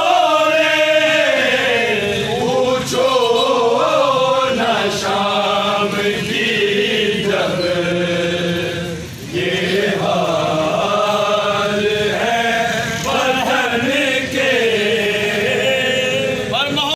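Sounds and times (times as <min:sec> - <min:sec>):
men chanting a mourning lament: 0:00.0 - 0:16.9.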